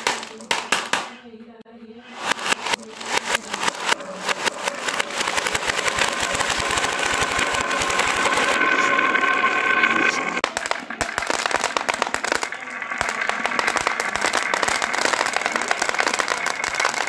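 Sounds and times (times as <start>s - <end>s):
glass marbles rolling on wood: 2.2s - 17.0s.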